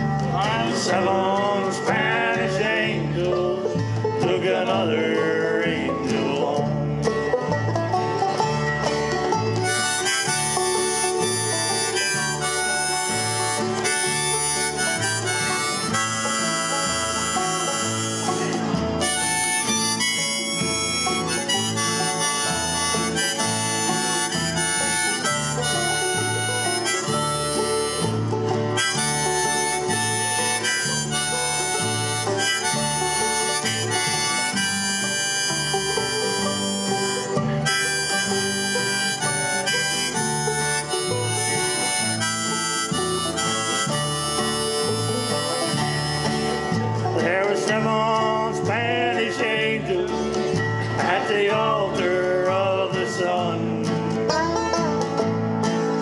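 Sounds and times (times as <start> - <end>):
banjo: 0.0 - 56.0
electric bass: 0.0 - 56.0
fiddle: 0.0 - 56.0
harmonica melody: 0.0 - 56.0
strummed acoustic guitar: 0.0 - 56.0.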